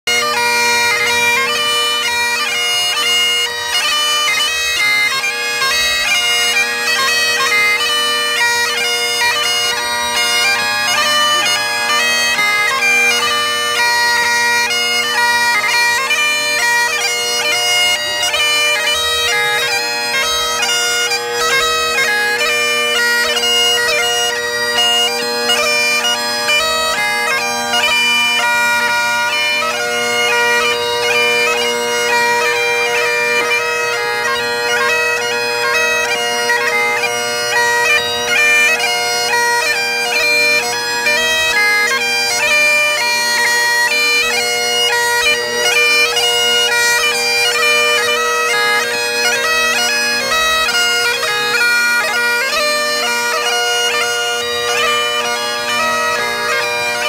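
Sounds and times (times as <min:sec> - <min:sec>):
bagpipe playing march: 0:00.0 - 0:57.0.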